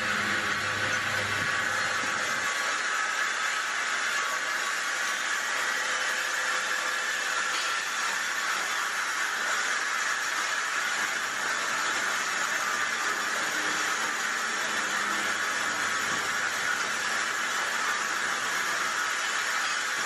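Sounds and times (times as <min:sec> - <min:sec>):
lathe whirring: 0:00.0 - 0:20.0.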